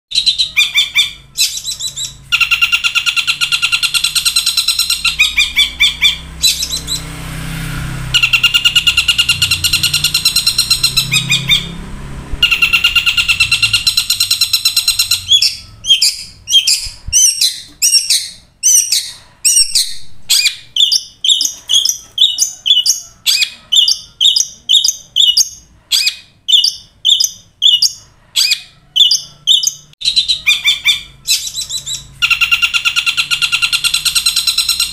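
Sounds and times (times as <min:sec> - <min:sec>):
bird singing harsh chattering notes: 0:00.1 - 0:07.2, 0:08.0 - 0:34.9.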